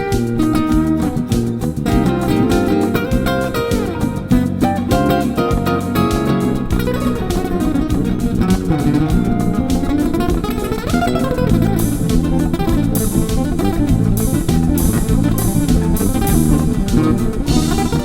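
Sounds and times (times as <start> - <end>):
bass line: 0.0 - 18.0
plucked guitar notes: 0.0 - 18.0
sharp accented strikes: 0.0 - 18.0.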